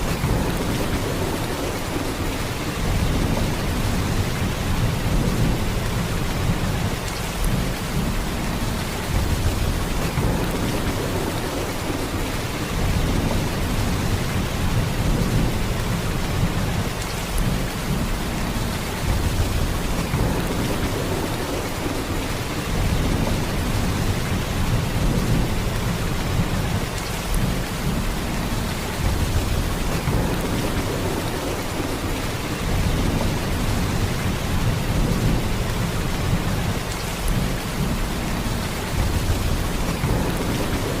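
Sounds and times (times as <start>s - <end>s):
heavy rain downpour: 0.0s - 41.0s.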